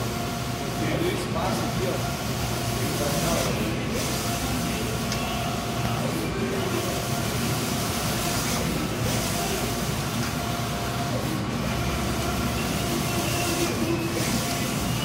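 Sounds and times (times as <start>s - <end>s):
printer carriage whirring: 0.0s - 15.0s.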